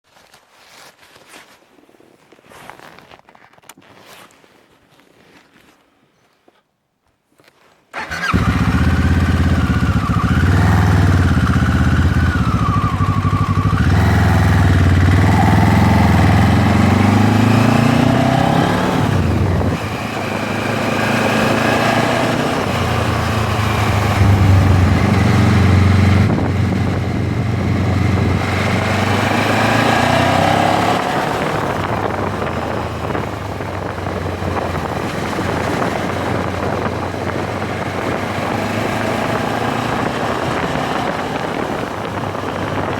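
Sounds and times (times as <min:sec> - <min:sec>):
motorcycle engine revving: 0:08.0 - 0:42.9.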